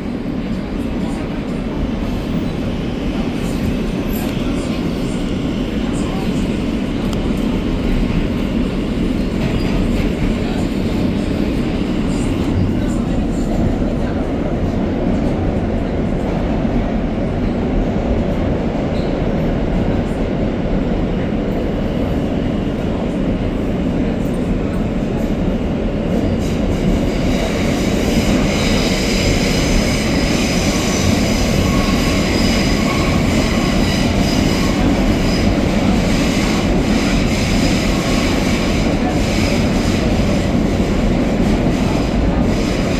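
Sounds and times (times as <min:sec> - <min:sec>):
subway wheels rumbling on track: 0:00.0 - 0:42.9.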